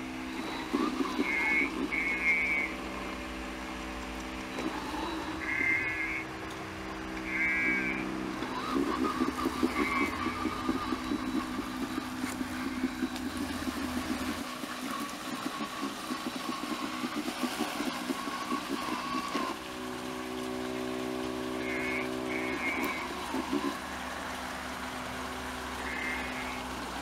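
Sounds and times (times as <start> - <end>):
robotic lawnmower motor drone: 0.0 - 27.0
thin whine: 0.0 - 27.0.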